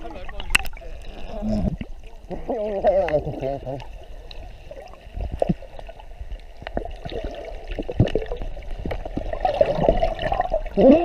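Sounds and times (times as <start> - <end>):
muffled wavering tones underwater: 0.0 - 11.0
water gurgling underwater: 0.0 - 11.0.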